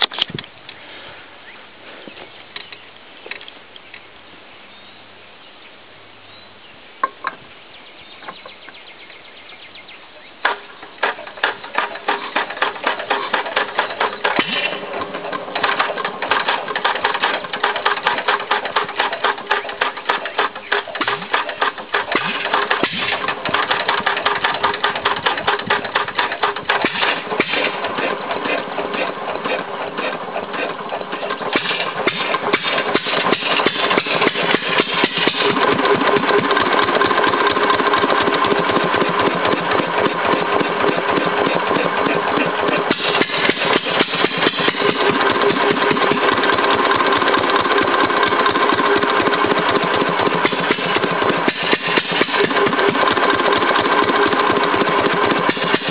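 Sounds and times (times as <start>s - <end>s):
engine running with sharp strokes: 10.4s - 55.9s.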